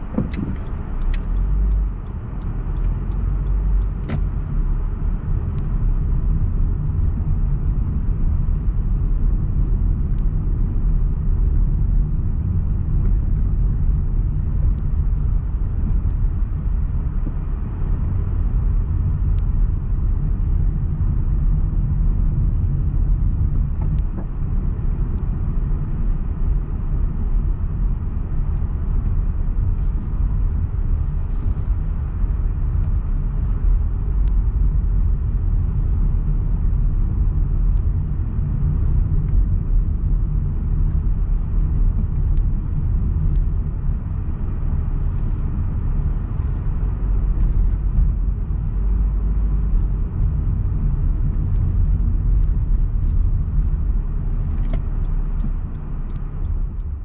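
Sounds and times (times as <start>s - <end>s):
car driving low rumble: 0.0s - 57.0s.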